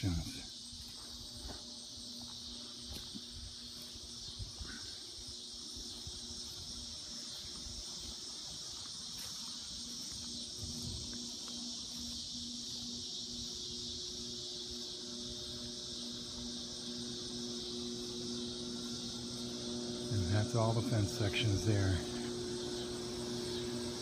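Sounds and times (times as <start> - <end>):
chorus of insects: 0.0 - 24.0.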